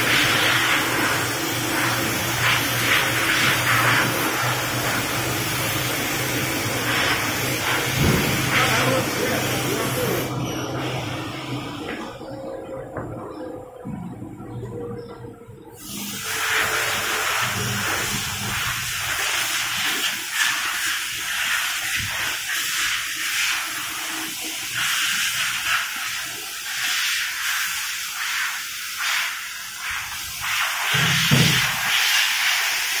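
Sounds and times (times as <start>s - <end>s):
rushing air hiss: 0.0s - 11.8s, 15.8s - 33.0s.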